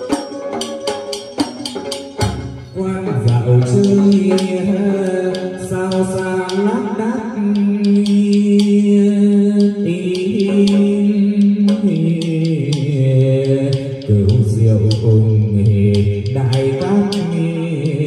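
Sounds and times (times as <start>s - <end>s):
sharp percussive clicks: 0.0s - 18.0s
man singing long notes: 2.7s - 18.0s.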